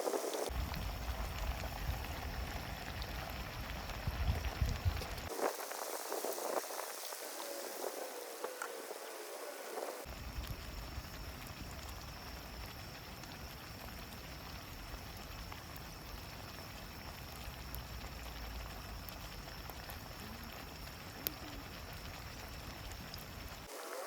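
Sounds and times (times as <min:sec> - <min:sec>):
campfire crackling and popping: 0:00.0 - 0:24.0
steady hiss and low rumble: 0:00.0 - 0:24.0.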